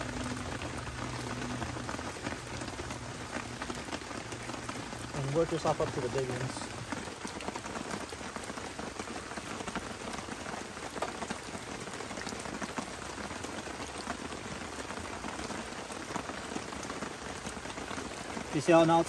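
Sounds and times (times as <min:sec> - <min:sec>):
clicks of raindrops: 0:00.0 - 0:19.0
rain on leaf-covered ground: 0:00.0 - 0:19.0.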